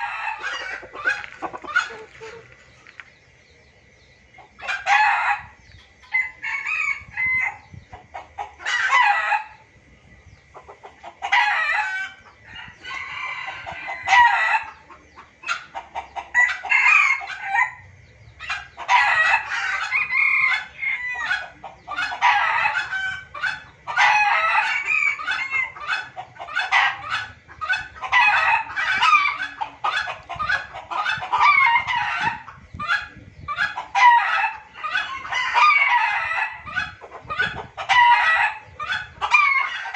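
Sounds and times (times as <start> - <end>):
junglefowl crowing and clucking: 0.0 - 3.1, 4.3 - 9.8, 10.5 - 39.9.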